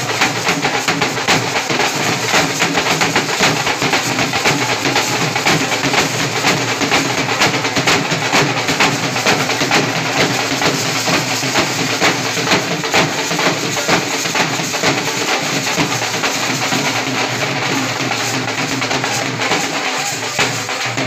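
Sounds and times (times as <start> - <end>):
drums beaten in dense rhythm: 0.0 - 21.0.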